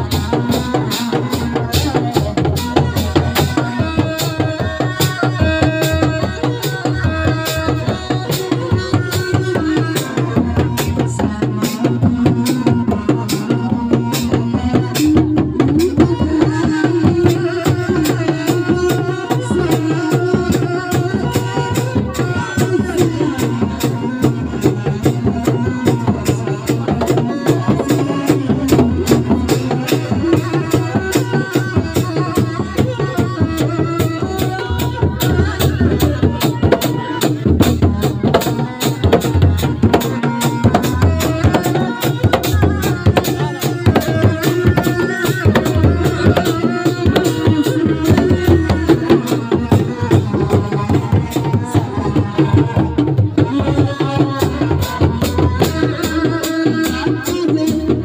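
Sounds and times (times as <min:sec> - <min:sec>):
drums beating fast rhythm: 0:00.0 - 0:58.0.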